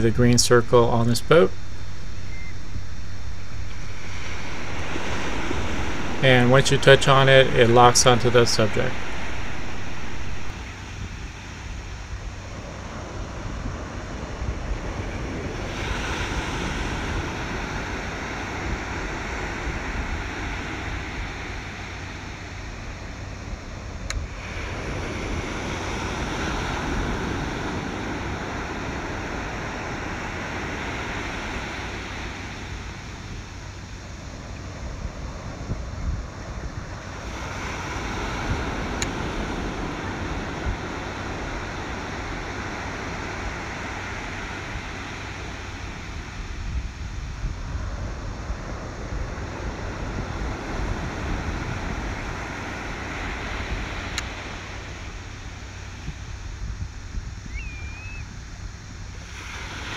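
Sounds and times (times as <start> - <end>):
ocean surf washing in: 0.0 - 57.6, 58.6 - 59.9
wind rumbling on microphone: 0.0 - 59.9.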